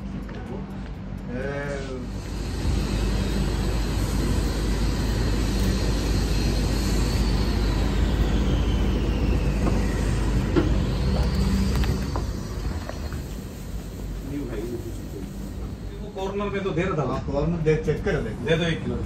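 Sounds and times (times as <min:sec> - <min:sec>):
low traffic rumble: 0:00.0 - 0:19.0
faint whine sliding down: 0:01.4 - 0:17.4.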